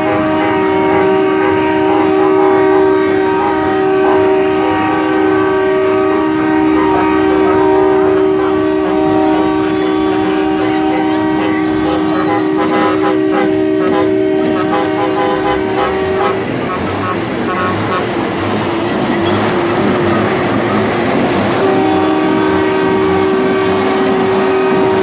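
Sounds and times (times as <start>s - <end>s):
train horn chord: 0.0s - 25.0s.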